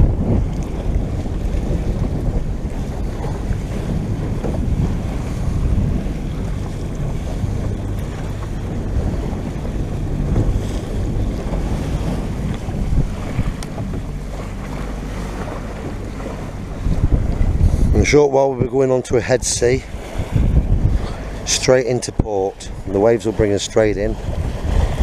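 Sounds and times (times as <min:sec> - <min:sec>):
outboard motor running: 0:00.0 - 0:25.0
water slapping boat hull: 0:00.0 - 0:25.0
wind buffeting microphone: 0:00.0 - 0:25.0.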